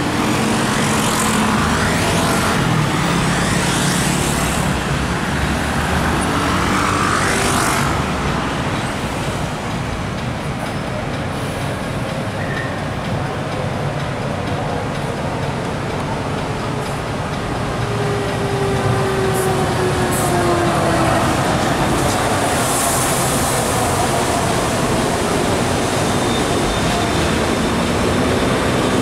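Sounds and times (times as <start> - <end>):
city road traffic: 0.0 - 29.0.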